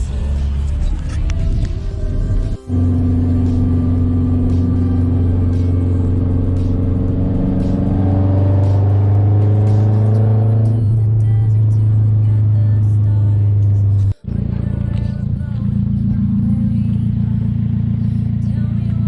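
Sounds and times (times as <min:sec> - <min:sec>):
car engine idling with deep drone: 0:00.0 - 0:19.0.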